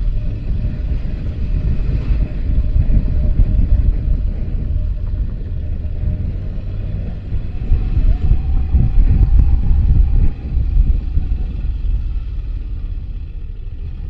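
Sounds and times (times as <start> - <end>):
motorcycle engine under throttle: 0.0 - 14.0
wind buffeting microphone: 0.0 - 14.0.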